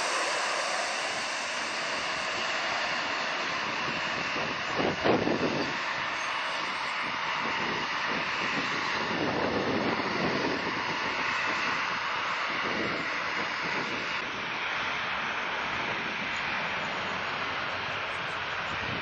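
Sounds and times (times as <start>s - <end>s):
jet engines passing: 0.0s - 19.0s.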